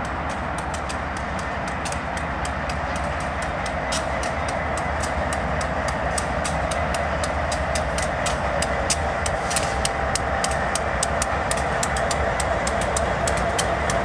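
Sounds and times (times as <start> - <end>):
diesel locomotive engine rumble: 0.0 - 14.0
rapid sharp clicks: 0.0 - 14.0.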